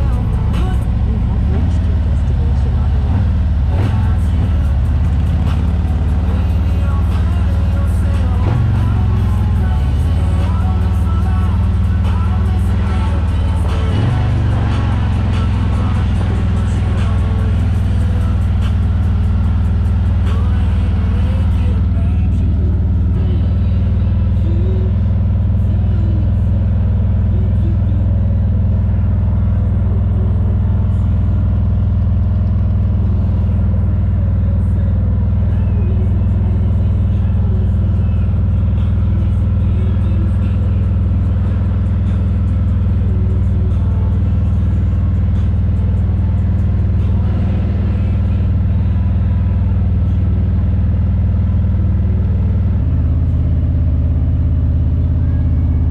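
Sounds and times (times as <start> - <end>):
faint music: 0.0 - 55.9
motorcycle engine and road drone: 0.0 - 55.9.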